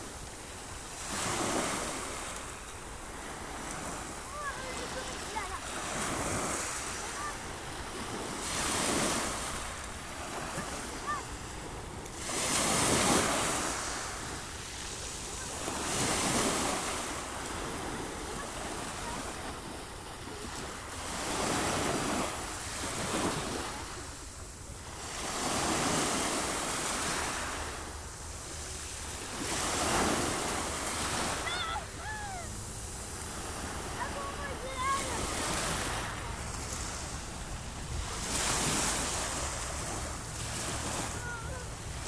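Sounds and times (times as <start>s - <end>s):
sea waves breaking on shore: 0.0s - 42.0s.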